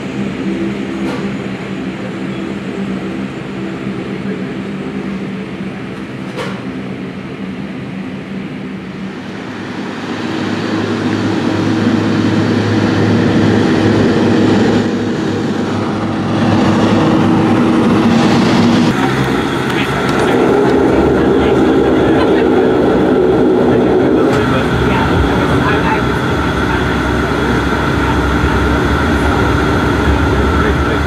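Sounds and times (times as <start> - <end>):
turboprop engine idling: 0.0 - 31.0.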